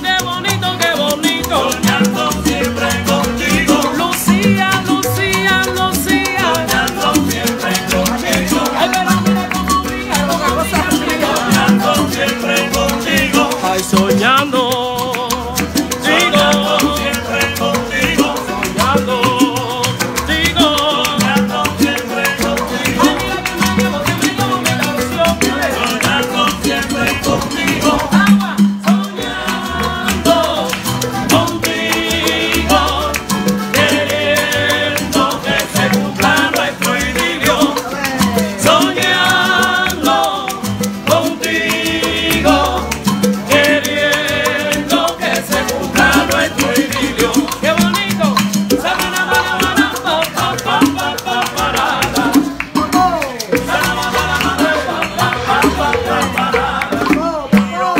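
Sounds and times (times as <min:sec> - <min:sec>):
acoustic guitars: 0:00.0 - 0:57.9
bongos: 0:00.0 - 0:57.9
maracas: 0:00.0 - 0:57.9.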